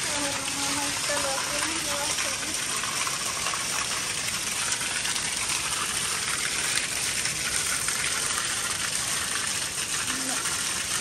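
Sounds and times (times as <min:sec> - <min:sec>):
water gushing onto tiled floor: 0:00.0 - 0:11.0.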